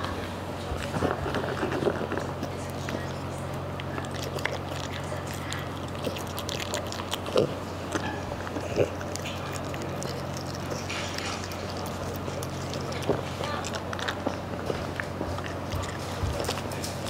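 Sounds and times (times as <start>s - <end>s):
dog chewing food from bowl: 0.8s - 17.0s.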